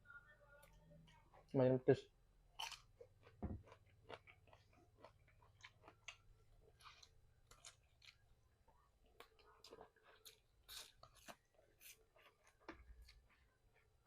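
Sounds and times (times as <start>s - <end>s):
person chewing crunchy food: 2.6s - 14.0s.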